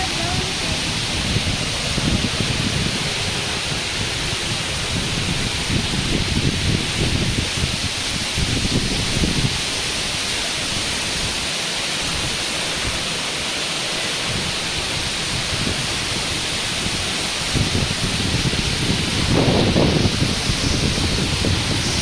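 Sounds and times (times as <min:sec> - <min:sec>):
wind buffeting microphone: 0:00.0 - 0:13.1, 0:14.2 - 0:22.0
water rushing: 0:00.0 - 0:22.0.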